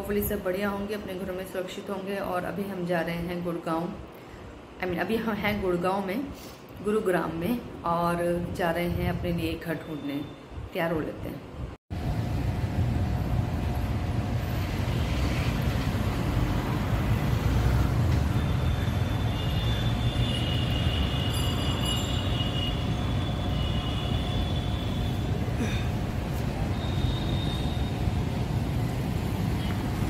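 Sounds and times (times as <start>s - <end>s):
low urban rumble: 0.0s - 30.0s.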